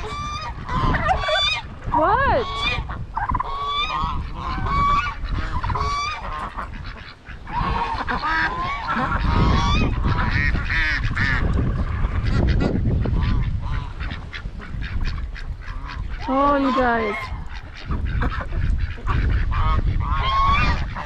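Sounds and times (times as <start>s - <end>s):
geese honking: 0.0s - 21.0s
wind rumbling on microphone: 0.0s - 21.0s.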